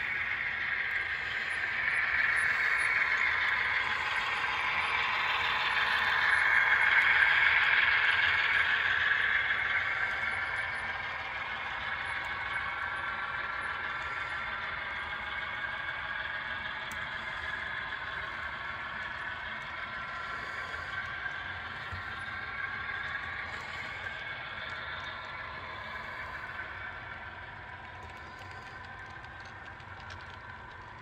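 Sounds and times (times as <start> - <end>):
model train whirring clatter: 0.0 - 31.0.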